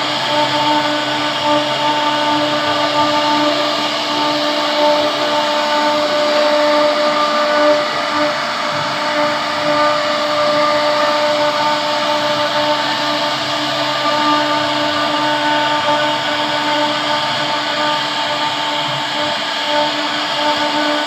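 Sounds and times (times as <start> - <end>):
router spindle motor whining: 0.0 - 21.0.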